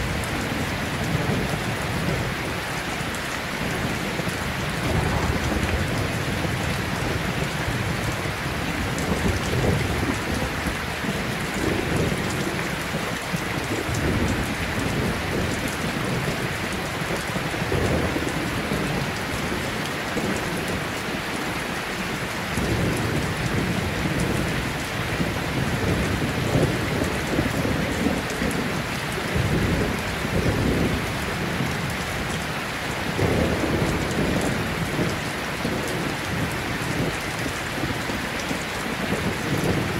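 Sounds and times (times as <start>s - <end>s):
steady rain: 0.0s - 39.9s
low rumbles of thunder: 3.6s - 20.9s, 22.2s - 32.4s, 33.0s - 39.9s.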